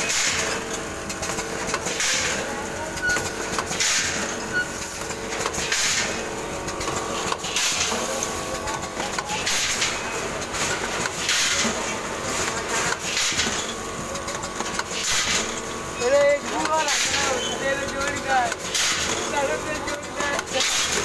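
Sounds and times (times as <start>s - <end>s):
packing machine hum: 0.0s - 21.0s.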